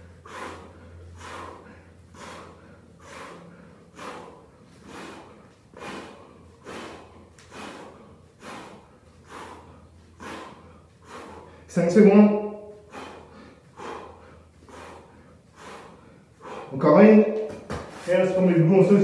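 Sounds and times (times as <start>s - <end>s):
man breathing hard: 0.0s - 18.2s.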